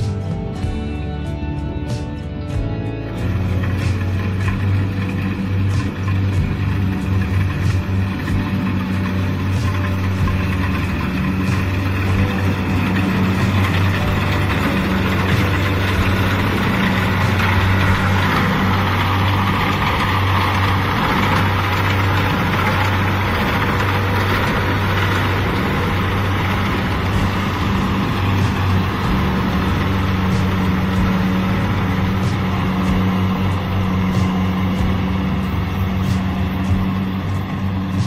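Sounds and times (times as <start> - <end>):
combine harvester engine hum: 0.0 - 38.0
harvester machinery noise: 0.0 - 38.0.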